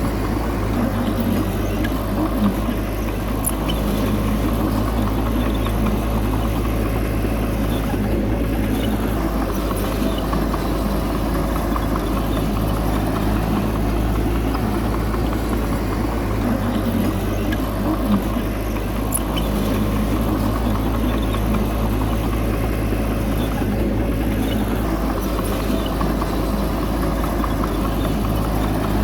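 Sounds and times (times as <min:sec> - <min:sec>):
heavy diesel engine droning: 0:00.0 - 0:29.0.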